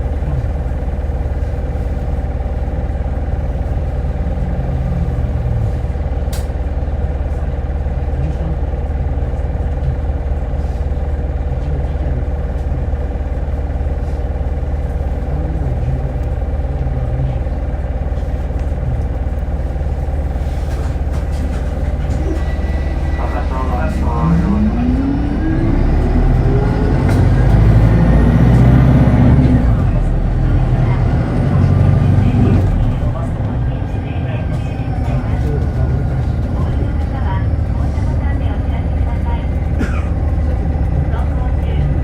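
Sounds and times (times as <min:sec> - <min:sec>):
bus engine and drivetrain hum: 0:00.0 - 0:42.0.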